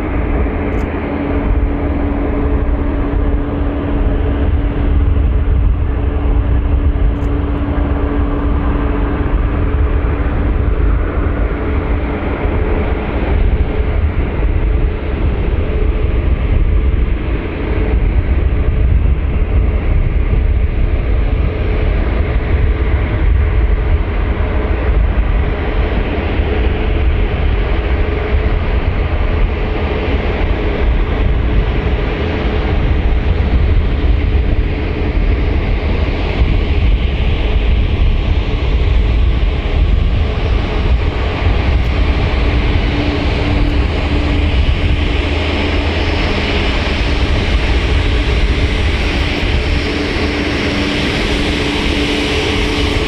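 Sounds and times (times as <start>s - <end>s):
deep vehicle rumble: 0.0s - 53.0s.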